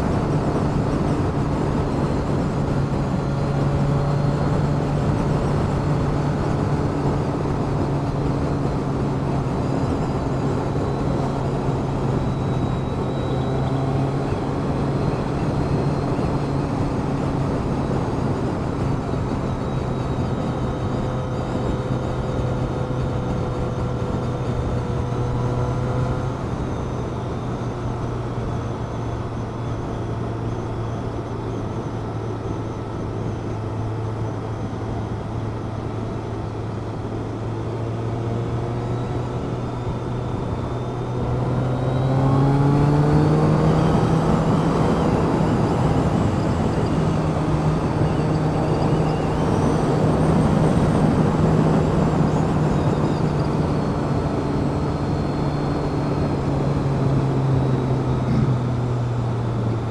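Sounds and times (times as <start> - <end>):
road noise: 0.0 - 59.9
vehicle engine hum: 0.0 - 59.9
wind noise: 0.0 - 59.9.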